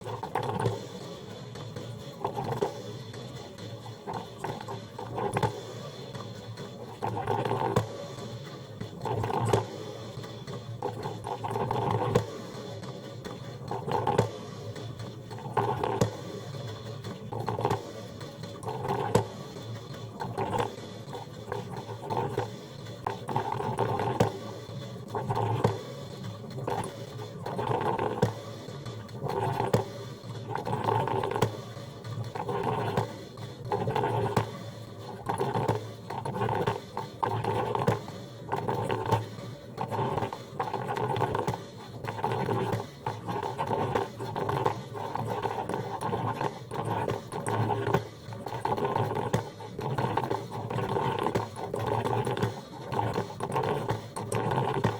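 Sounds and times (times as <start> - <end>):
coffee machine pulsing: 0.0 - 54.9.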